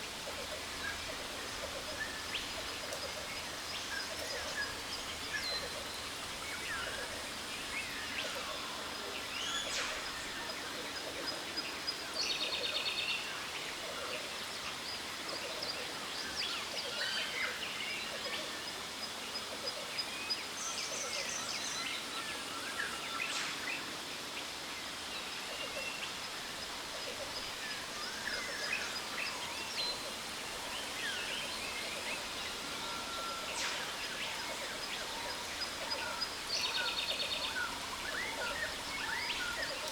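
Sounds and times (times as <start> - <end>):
waterfall hiss: 0.0 - 19.4, 20.4 - 39.9.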